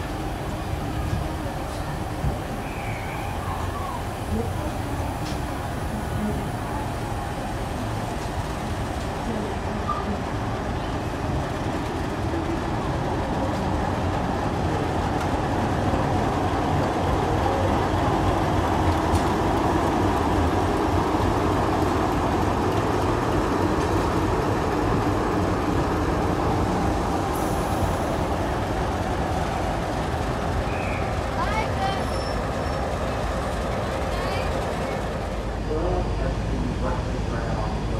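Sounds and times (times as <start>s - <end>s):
diesel locomotive rumbling past: 0.0s - 37.9s.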